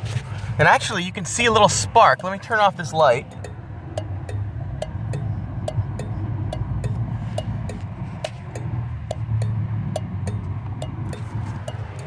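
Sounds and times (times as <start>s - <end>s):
steady low hum: 0.0s - 12.0s
turn-signal flasher clicking: 1.5s - 12.0s.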